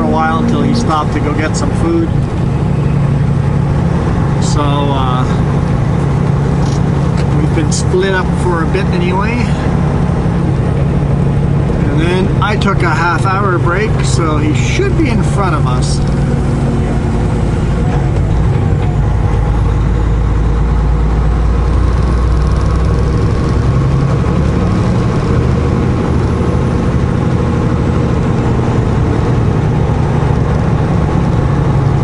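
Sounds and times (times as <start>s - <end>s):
diesel truck engine droning: 0.0s - 32.0s
road noise: 0.0s - 32.0s.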